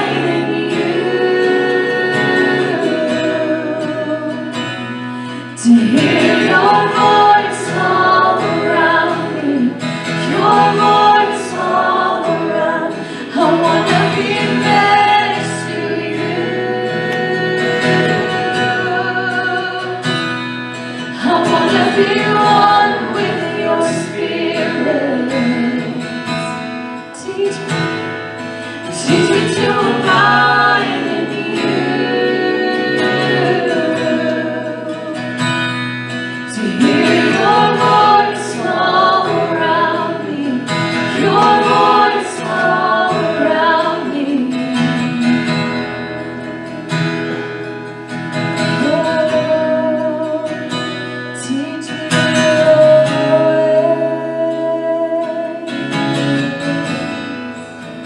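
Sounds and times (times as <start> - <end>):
person singing worship song: 0.0 - 35.6, 36.5 - 46.3, 48.8 - 57.3.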